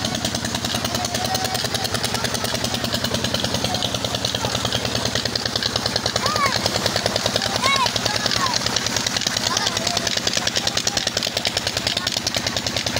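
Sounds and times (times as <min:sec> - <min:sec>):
water pump engine running: 0:00.0 - 0:12.9.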